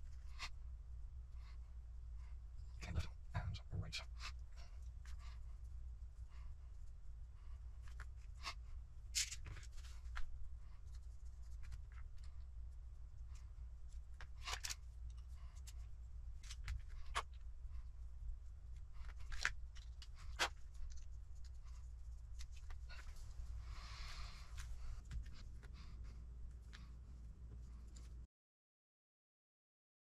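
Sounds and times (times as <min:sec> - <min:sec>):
steady low hum: 0:00.0 - 0:28.3.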